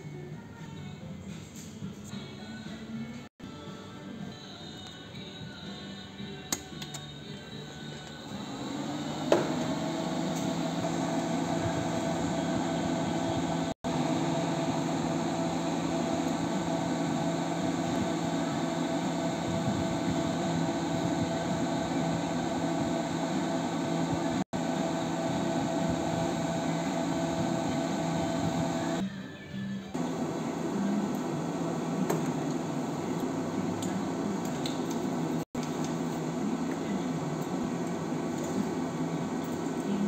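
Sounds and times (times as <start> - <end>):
cooling fan whirring: 6.2 - 29.0, 29.9 - 40.0.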